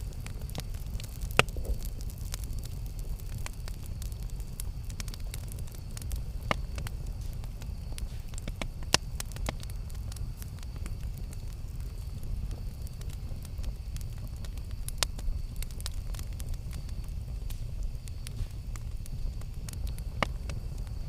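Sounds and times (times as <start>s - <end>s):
burning wood crackling and popping: 0.0s - 21.0s
campfire low rumble: 0.0s - 21.0s.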